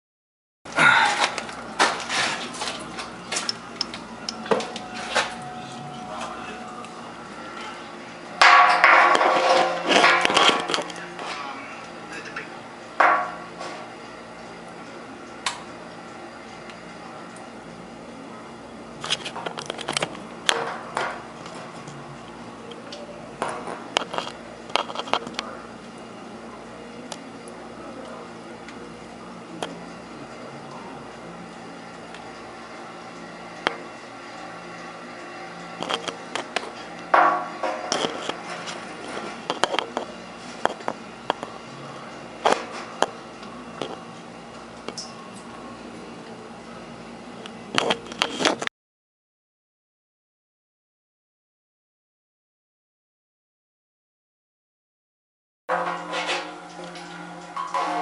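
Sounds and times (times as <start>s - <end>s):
steady low hum: 0.7s - 48.6s.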